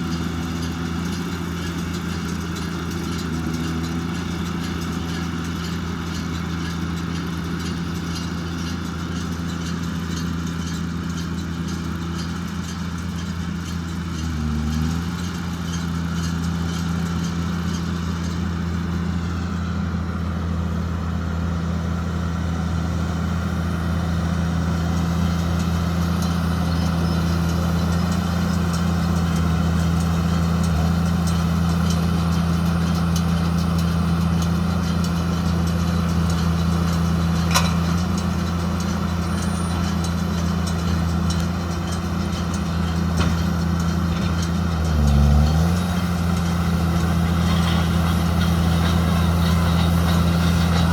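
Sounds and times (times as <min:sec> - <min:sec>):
tractor running: 0:00.0 - 0:50.9.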